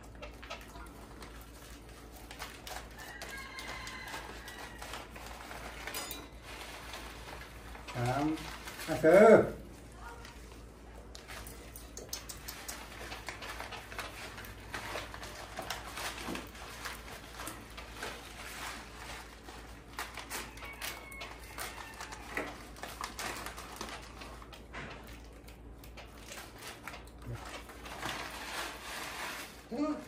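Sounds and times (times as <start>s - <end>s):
plastic packet crinkling: 0.0s - 11.7s, 12.5s - 30.0s.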